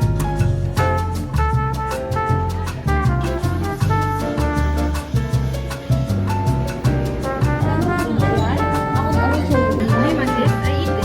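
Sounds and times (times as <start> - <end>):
jazzy latin music with brass: 0.0 - 11.0.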